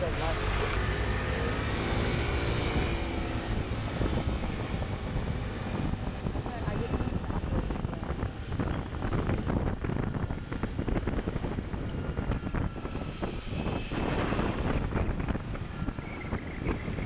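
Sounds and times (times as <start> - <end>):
street traffic: 0.0 - 17.0
wind buffeting microphone: 0.0 - 17.0.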